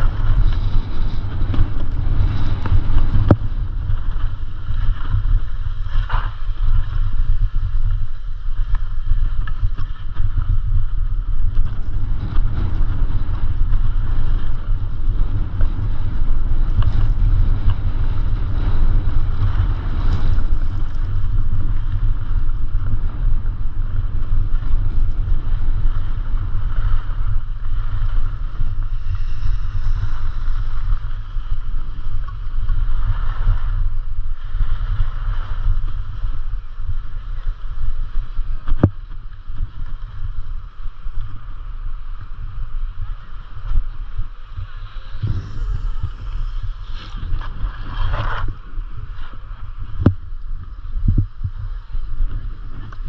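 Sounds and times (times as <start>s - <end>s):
skis sliding on packed snow: 0.0s - 53.0s
wind noise on microphone: 0.0s - 53.0s.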